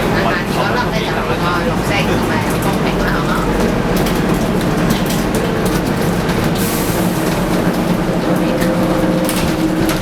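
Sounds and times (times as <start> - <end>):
bus engine drone: 0.0 - 10.0
road and running noise: 0.0 - 10.0.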